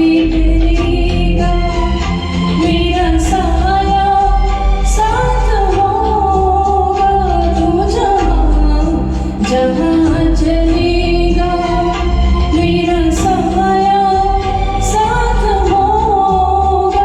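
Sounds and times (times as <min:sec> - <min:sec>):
instrumental accompaniment with bass: 0:00.0 - 0:17.0
woman singing: 0:00.0 - 0:17.0.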